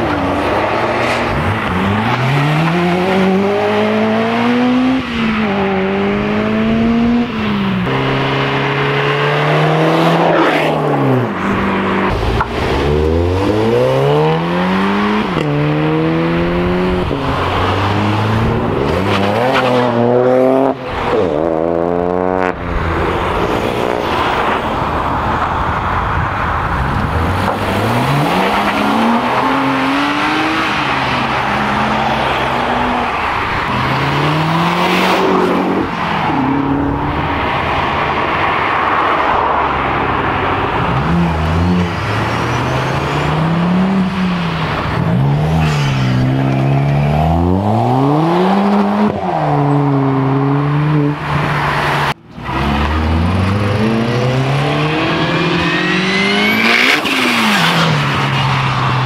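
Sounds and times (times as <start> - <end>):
cars accelerating past: 0.0 - 59.0
tyre and road noise: 0.0 - 59.0.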